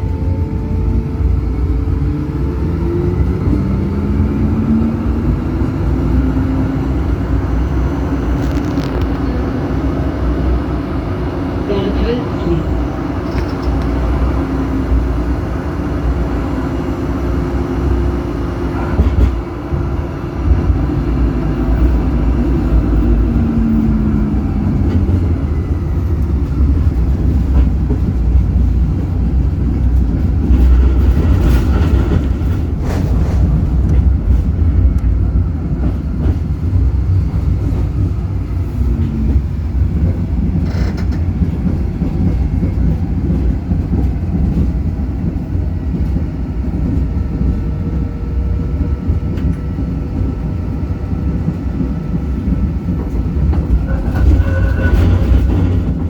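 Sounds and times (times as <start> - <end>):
tram rumbling along track: 0.0 - 56.0.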